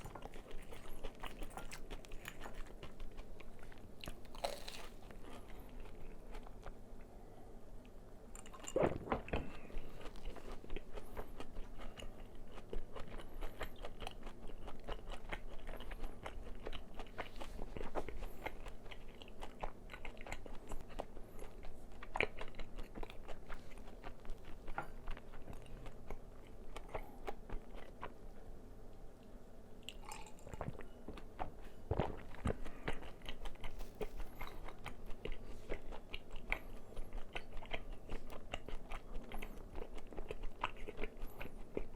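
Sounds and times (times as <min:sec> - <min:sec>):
crunching and chewing fried chicken: 0:00.0 - 0:07.1, 0:08.4 - 0:28.5, 0:29.8 - 0:41.9.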